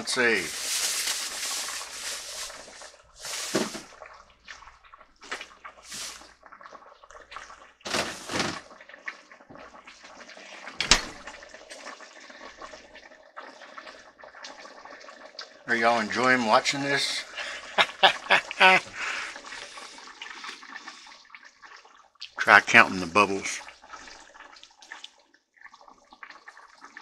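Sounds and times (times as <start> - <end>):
curry bubbling in a pot: 0.0 - 27.0.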